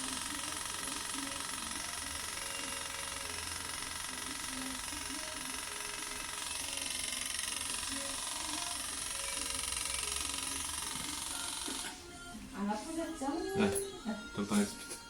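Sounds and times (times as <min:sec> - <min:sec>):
tattoo machine whirring: 0:00.0 - 0:12.1.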